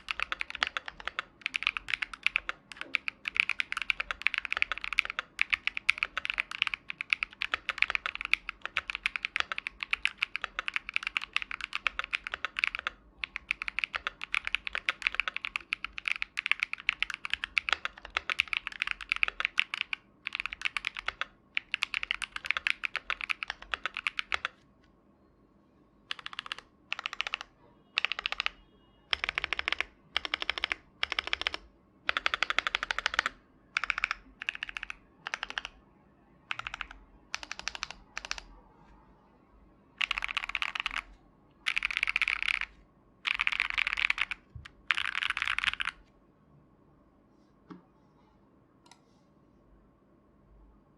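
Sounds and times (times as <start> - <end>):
mechanical keyboard typing: 0.0 - 24.6, 26.1 - 35.8, 36.5 - 38.5, 40.0 - 46.0.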